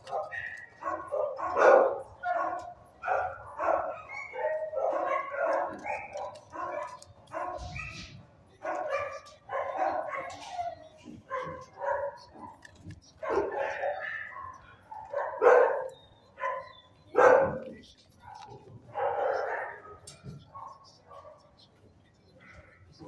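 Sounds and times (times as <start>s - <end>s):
dogs barking: 0.0s - 21.7s.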